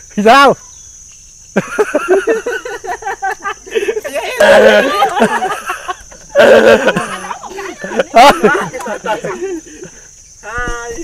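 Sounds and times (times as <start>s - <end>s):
high insect drone: 0.0s - 11.0s
young people laughing and shouting: 1.6s - 11.0s.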